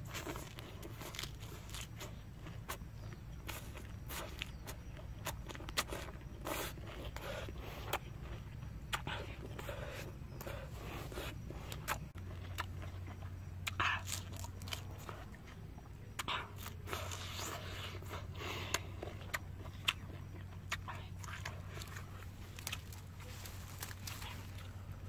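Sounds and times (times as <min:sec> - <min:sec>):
person chewing and lip-smacking: 0:00.0 - 0:24.9
low hum: 0:00.0 - 0:25.0.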